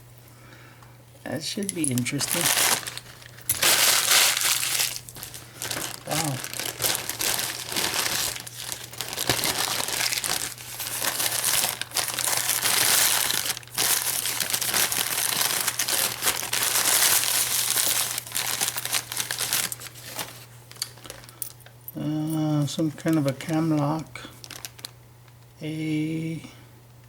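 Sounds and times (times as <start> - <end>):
packing material crinkling: 1.4 - 21.6, 22.3 - 25.4.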